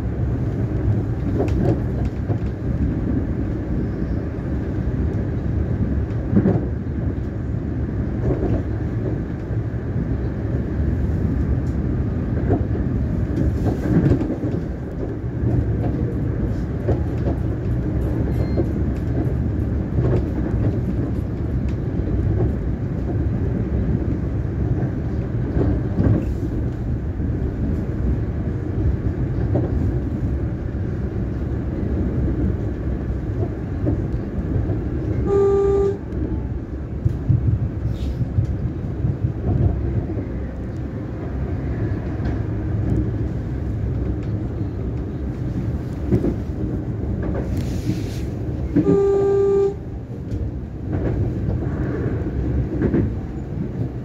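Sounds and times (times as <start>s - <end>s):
train knocks and clunks: 0.0s - 54.0s
train wheels rumbling on rail: 0.0s - 54.0s.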